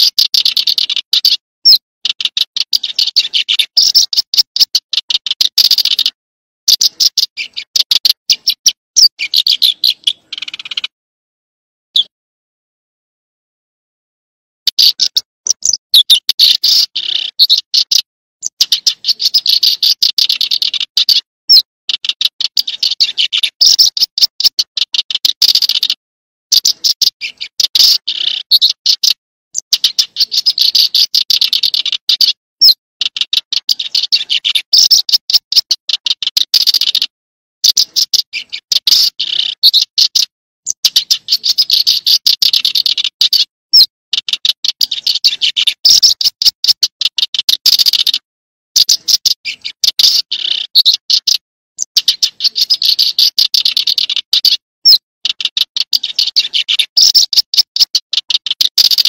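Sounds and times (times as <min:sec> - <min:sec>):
small songbird singing: 0:00.0 - 0:10.9, 0:14.6 - 0:59.0.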